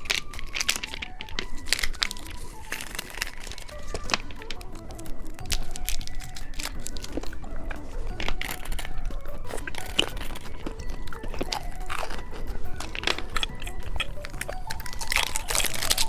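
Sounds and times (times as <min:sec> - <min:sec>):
candy crunching and chewing: 0:00.0 - 0:16.0.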